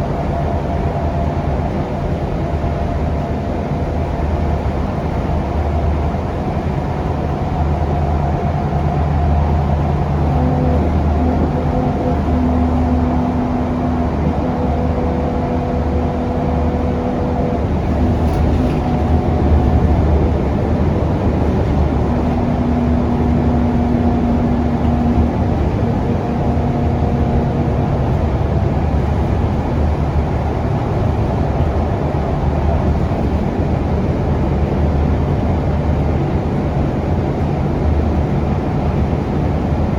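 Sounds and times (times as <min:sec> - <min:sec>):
steady tones: 0:00.0 - 0:32.0
bus engine and road rumble: 0:00.0 - 0:39.9.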